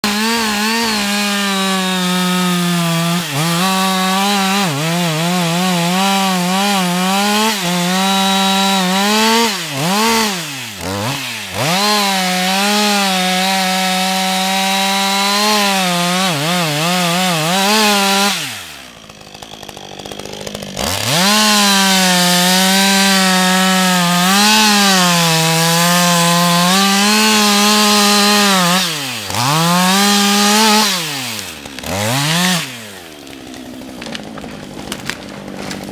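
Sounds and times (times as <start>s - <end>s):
chainsaw cutting tree trunk: 0.0s - 35.9s.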